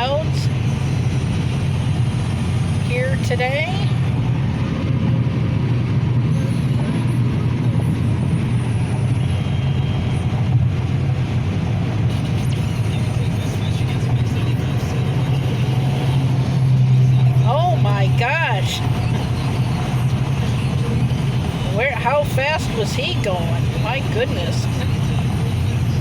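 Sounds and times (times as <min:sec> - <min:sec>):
car engine hum inside cabin: 0:00.0 - 0:26.0.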